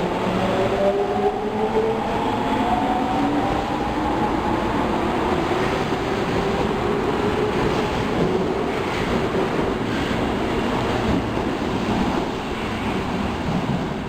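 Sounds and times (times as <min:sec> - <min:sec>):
subway wheels rumbling on rail: 0:00.0 - 0:14.0.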